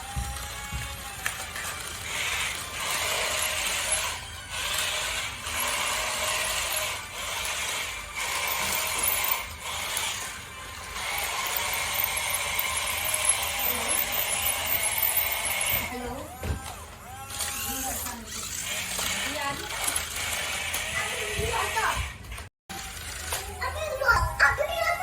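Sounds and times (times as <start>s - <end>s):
toy motors whirring: 0.0s - 25.0s.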